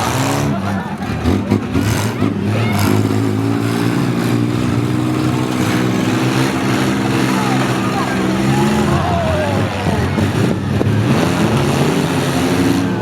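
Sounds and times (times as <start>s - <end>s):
vehicle engines revving: 0.0s - 13.0s.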